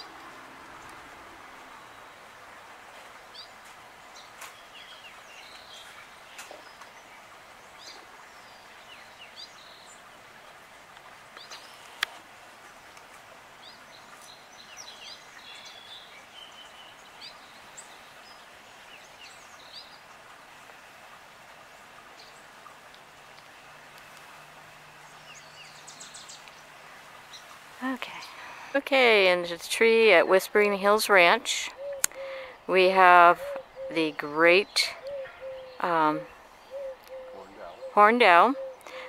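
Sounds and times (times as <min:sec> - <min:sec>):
birds chirping: 0:00.0 - 0:12.2, 0:12.8 - 0:39.0
faint background hiss: 0:00.0 - 0:39.0.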